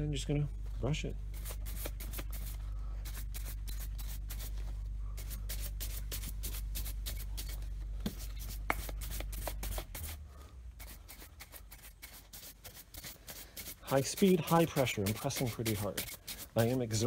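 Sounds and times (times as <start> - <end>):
low steady hum: 0.0 - 17.0
shoe brush strokes: 1.3 - 17.0.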